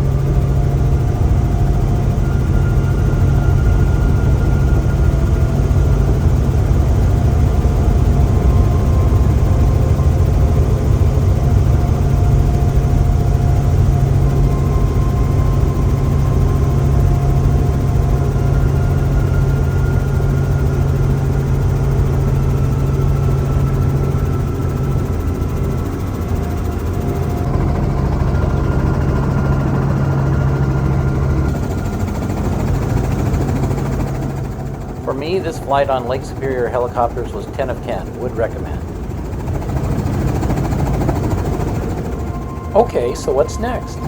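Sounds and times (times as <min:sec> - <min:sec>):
helicopter engine and rotor: 0:00.0 - 0:44.0.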